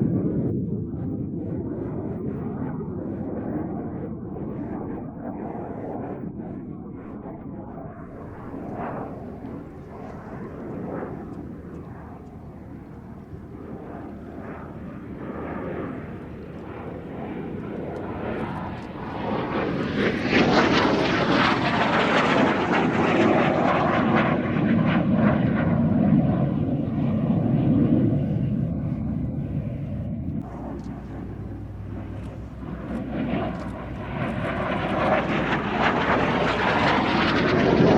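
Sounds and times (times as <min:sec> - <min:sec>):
aircraft engines flying over: 0:00.0 - 0:37.9.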